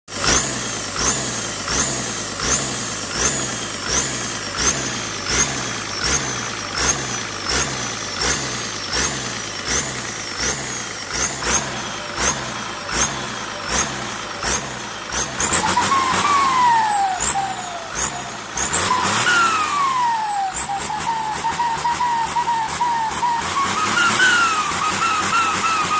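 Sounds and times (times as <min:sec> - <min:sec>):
turbocharger whistling and hissing: 0:00.1 - 0:25.9.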